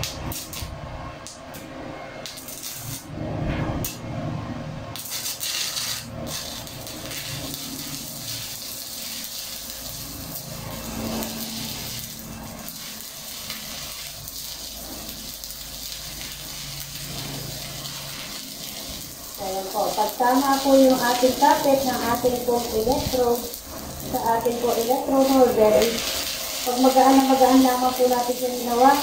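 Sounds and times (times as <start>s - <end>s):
welding arc crackling and sizzling: 0.0s - 29.0s.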